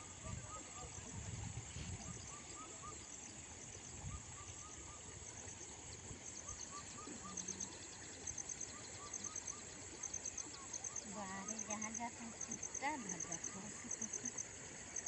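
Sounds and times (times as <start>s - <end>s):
high-pitched insect drone: 2.0s - 15.0s.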